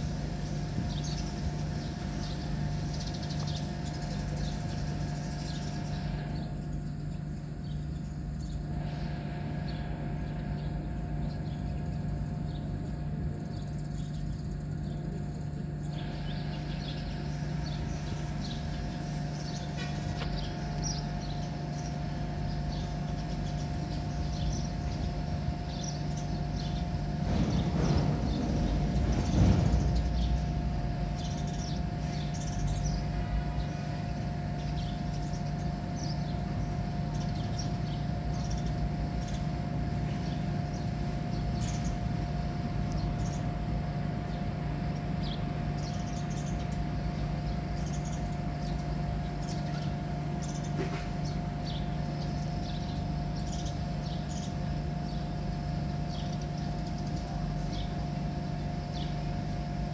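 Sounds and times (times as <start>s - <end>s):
birds chirping: 0.0s - 59.9s
low machine hum: 0.0s - 59.9s.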